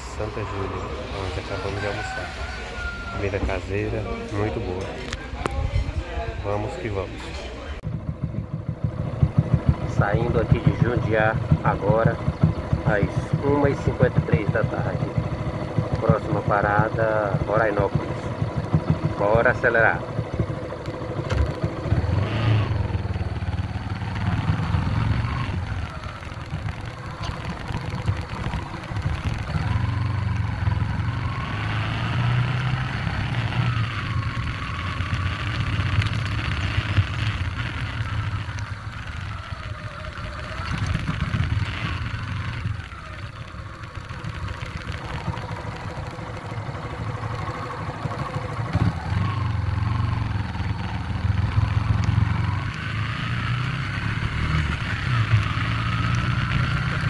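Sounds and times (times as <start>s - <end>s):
motorcycle engine accelerating: 0.0s - 5.8s, 7.8s - 57.0s.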